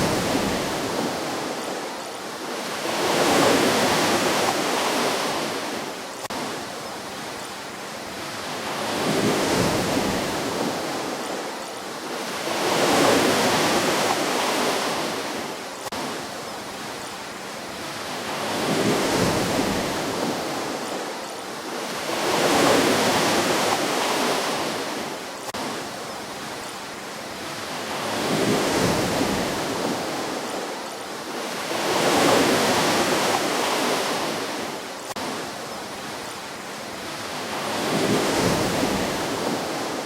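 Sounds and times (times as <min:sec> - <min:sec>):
ocean waves breaking on shore: 0:00.0 - 0:40.0.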